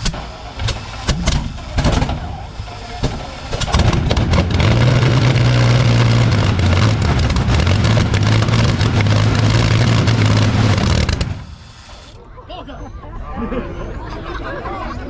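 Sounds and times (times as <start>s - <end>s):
aircraft engine droning: 0.0s - 12.2s.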